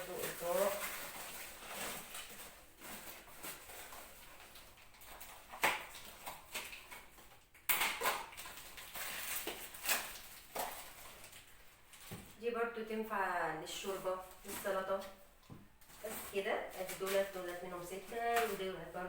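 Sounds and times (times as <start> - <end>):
rustling: 0.0 - 7.3, 8.3 - 12.4, 13.6 - 19.0.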